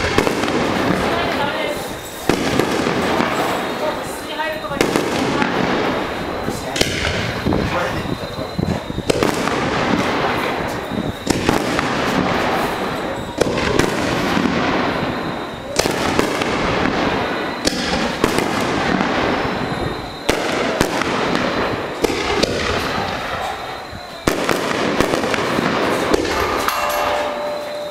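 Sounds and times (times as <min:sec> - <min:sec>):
continuous noisy background: 0:00.0 - 0:27.9
firework shells bursting: 0:00.0 - 0:27.9.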